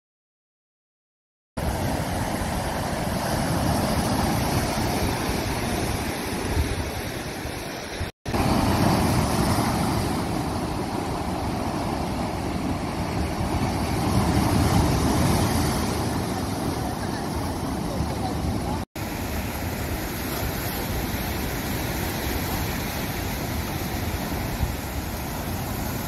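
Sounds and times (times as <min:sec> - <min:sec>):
surf breaking over boulders: 0:01.6 - 0:26.0.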